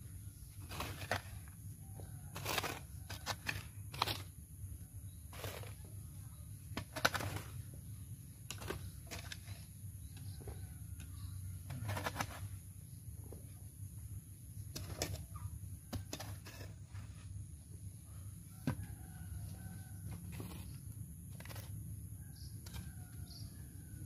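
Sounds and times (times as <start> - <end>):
low steady rumble: 0.0 - 24.0
soil scraping and knocking: 0.1 - 13.6, 14.5 - 17.6, 18.5 - 23.5.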